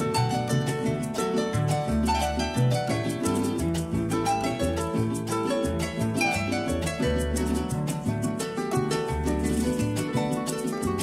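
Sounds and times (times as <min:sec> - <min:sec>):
bass line: 0:00.0 - 0:11.0
plucked harp music: 0:00.0 - 0:11.0.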